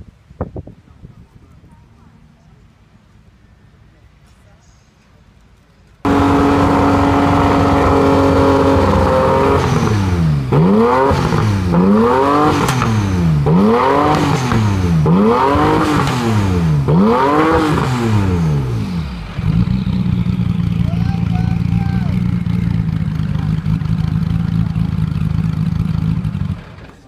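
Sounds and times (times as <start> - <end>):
car engine idling and revving: 5.0 - 27.0.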